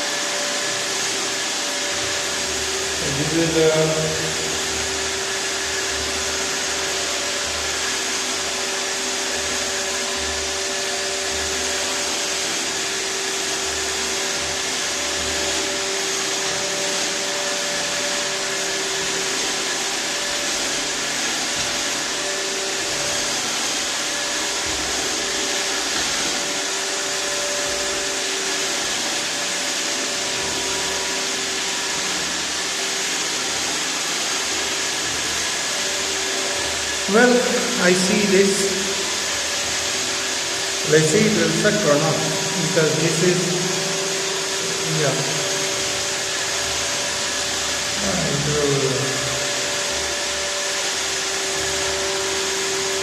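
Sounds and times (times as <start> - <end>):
robot vacuum running: 0.0 - 53.0.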